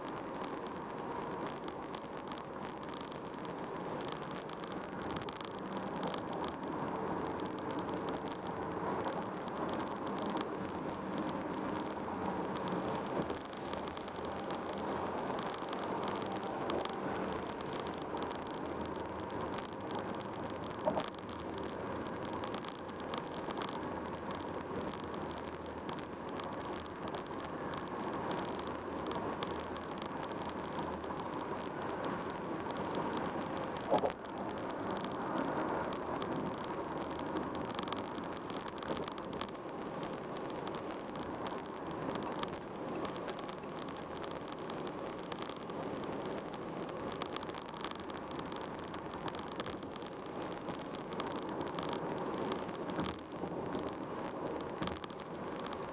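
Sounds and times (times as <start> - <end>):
road and tyre noise: 0.0 - 55.9.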